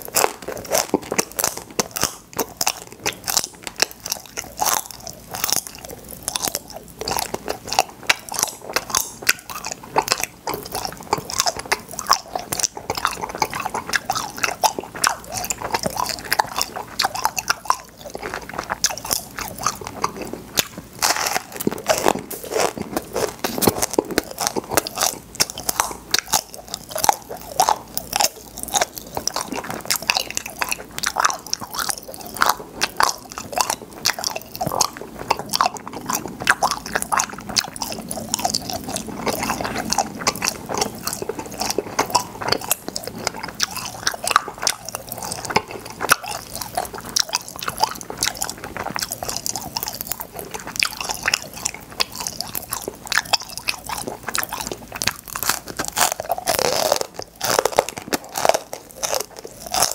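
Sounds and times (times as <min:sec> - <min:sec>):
chewing: 0:00.0 - 0:59.9
popping candy crackling: 0:00.0 - 0:59.9.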